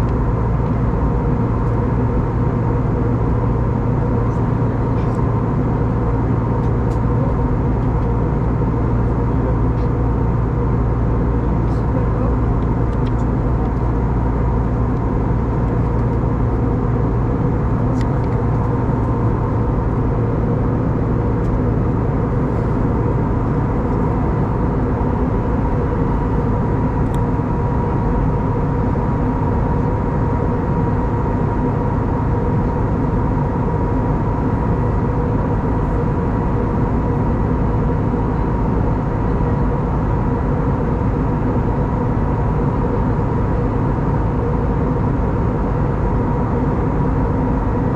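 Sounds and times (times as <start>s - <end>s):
jet engines humming: 0.0s - 47.9s.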